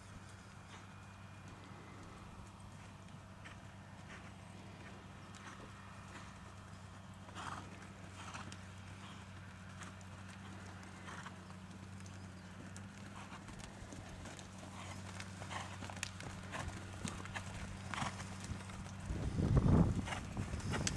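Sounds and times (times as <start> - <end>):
horse hoofbeats trotting: 0.1 - 20.9.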